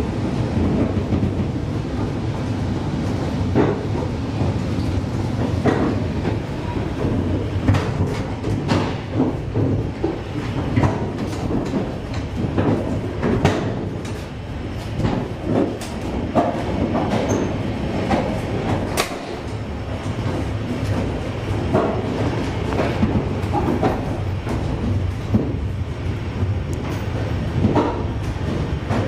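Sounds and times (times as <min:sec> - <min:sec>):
train wheels rumbling on rail: 0:00.0 - 0:29.0
clattering clicks and knocks: 0:03.1 - 0:29.0.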